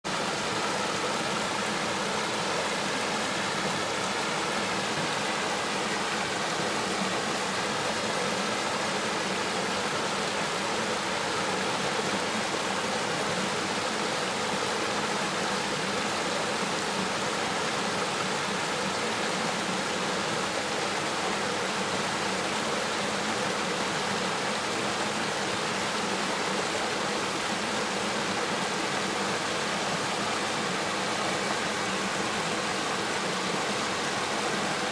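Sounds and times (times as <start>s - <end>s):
river water flowing over rocks: 0.1s - 34.9s.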